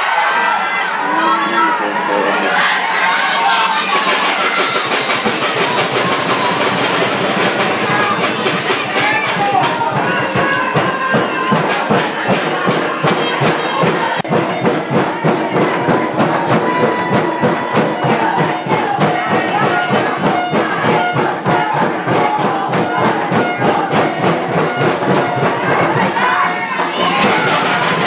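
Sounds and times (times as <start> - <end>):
music with percussion beat: 3.5 - 28.0.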